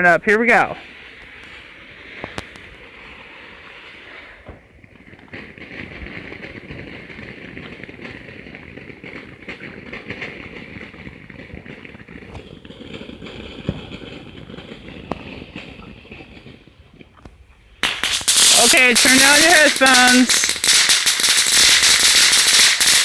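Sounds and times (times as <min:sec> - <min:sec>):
firework hissing and crackling: 0:00.2 - 0:23.0
firework pops: 0:00.8 - 0:23.0.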